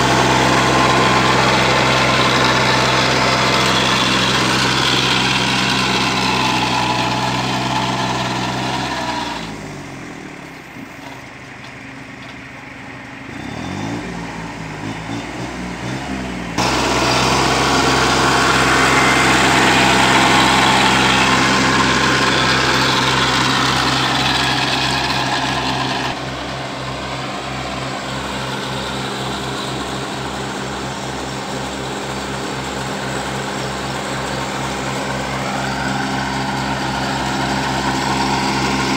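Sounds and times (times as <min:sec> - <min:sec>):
weeder churning soil: 0:00.0 - 0:12.5, 0:14.9 - 0:38.9
tractor diesel engine running: 0:00.0 - 0:38.9.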